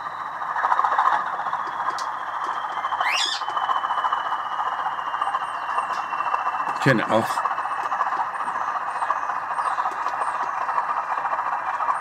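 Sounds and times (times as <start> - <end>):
faint whine falling in pitch: 0.0 - 12.0
model locomotive diesel engine shutdown: 1.2 - 12.0.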